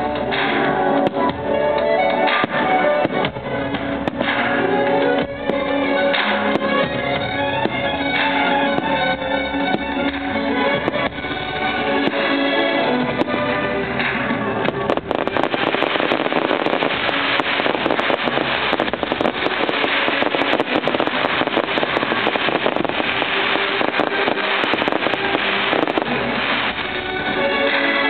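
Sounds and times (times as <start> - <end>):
fireworks crackling and popping: 0.0 - 28.0
loud show music: 0.0 - 28.0.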